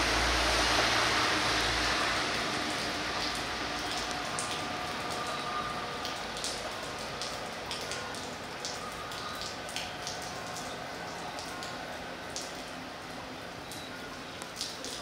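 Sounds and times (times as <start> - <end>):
close raindrops striking: 0.0 - 15.0
steady rain falling: 0.0 - 15.0.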